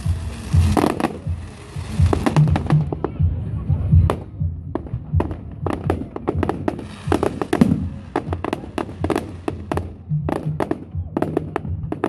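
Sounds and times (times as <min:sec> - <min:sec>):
fireworks crackling: 0:00.0 - 0:03.2, 0:04.1 - 0:12.0
fireworks bangs: 0:00.0 - 0:12.0.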